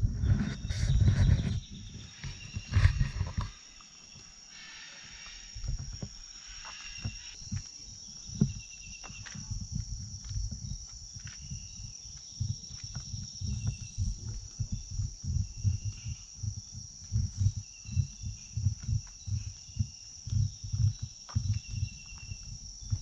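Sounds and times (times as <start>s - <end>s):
insects droning: 0.0s - 23.0s
insect trilling calls: 1.3s - 9.8s, 10.5s - 23.0s.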